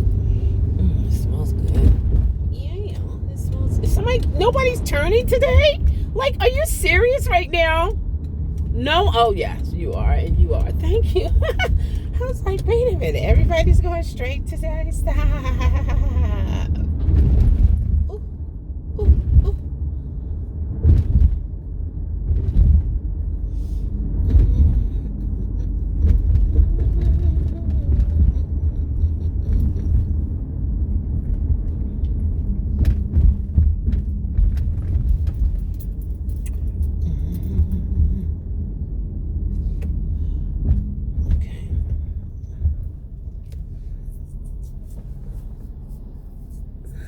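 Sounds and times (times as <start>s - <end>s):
car road rumble: 0.0s - 47.0s.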